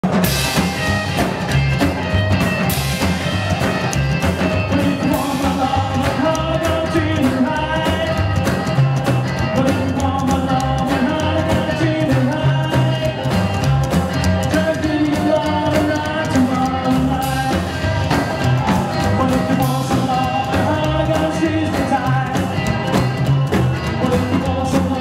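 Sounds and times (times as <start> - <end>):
rockabilly band playing: 0.0 - 25.0
man singing lead vocal: 4.5 - 25.0.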